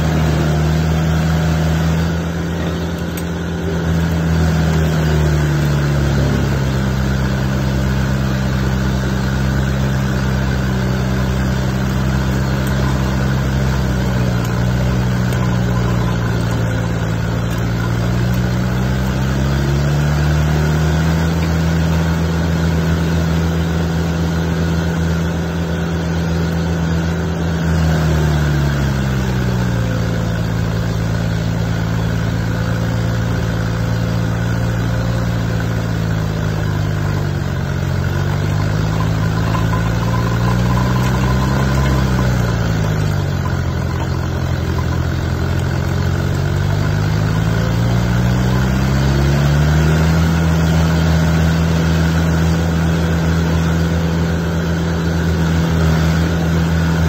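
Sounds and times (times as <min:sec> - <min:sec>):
stump grinder engine running: 0:00.0 - 0:57.0.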